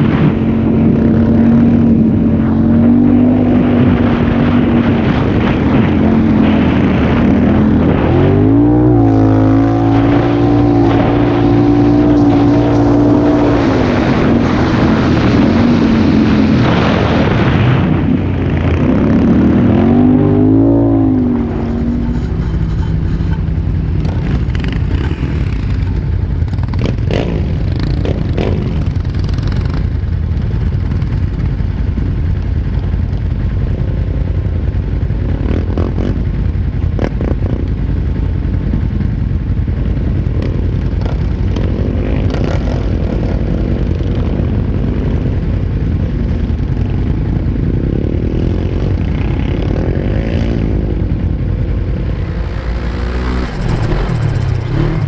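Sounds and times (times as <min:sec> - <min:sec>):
quad bike engines revving: 0:00.0 - 0:55.0.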